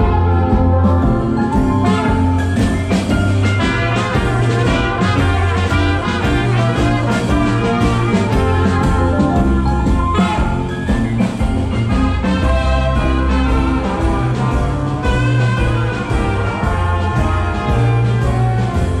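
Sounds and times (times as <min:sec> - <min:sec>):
jazz band playing: 0:00.0 - 0:19.0.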